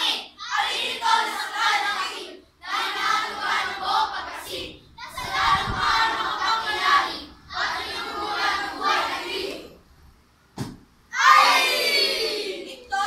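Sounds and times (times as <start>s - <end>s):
children reciting in unison: 0.0s - 9.8s, 11.1s - 13.0s.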